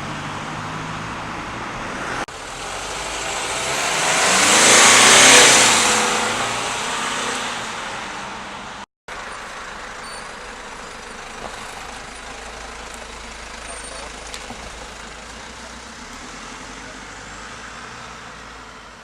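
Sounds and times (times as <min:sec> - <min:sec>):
street traffic hum: 0:00.0 - 0:19.0
vehicle passing close: 0:00.1 - 0:18.9.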